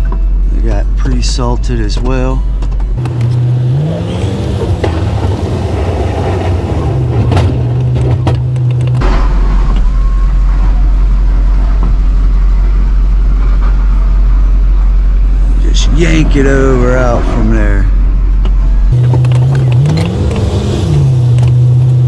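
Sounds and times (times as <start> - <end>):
steady low rumble: 0.0 - 20.2
truck engine running: 0.0 - 22.0.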